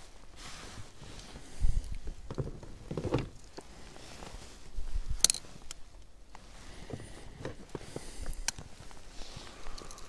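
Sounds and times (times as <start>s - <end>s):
soft rustles: 0.0s - 10.0s.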